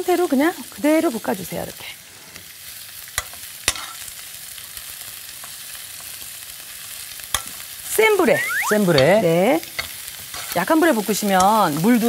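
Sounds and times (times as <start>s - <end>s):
sprouts sizzling in oil: 0.0s - 12.0s.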